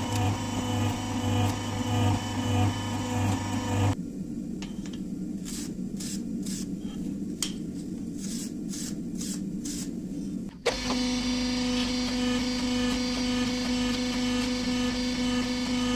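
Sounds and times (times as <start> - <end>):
steady machine hum: 0.0 - 15.9.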